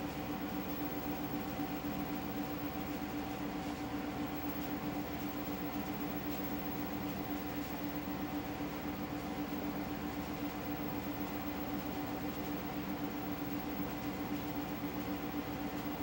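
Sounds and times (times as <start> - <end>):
steady hum with hiss: 0.0 - 16.0.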